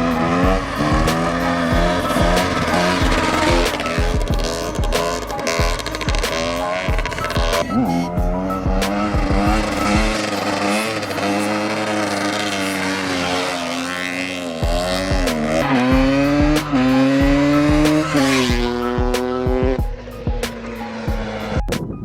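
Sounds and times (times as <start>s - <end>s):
two-stroke engine revving: 0.0s - 21.8s
background music with beat: 0.0s - 22.0s.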